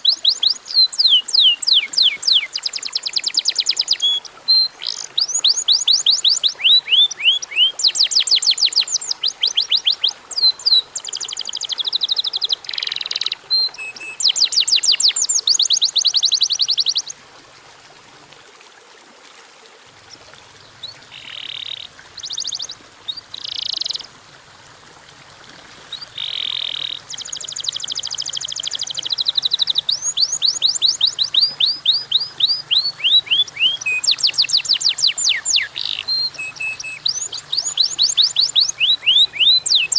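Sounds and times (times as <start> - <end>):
canary singing trills: 0.0 - 17.1, 20.6 - 24.1, 25.9 - 39.9.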